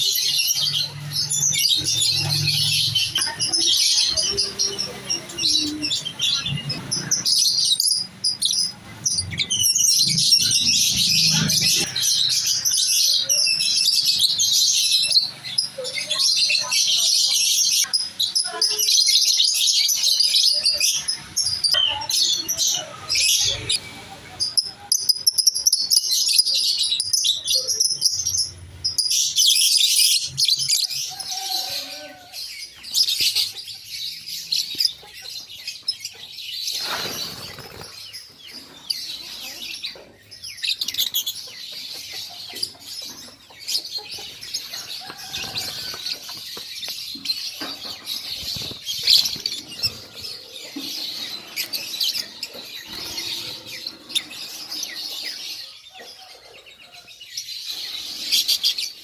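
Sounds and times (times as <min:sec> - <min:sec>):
lovebirds chirping and squeaking: 0:00.0 - 0:59.0.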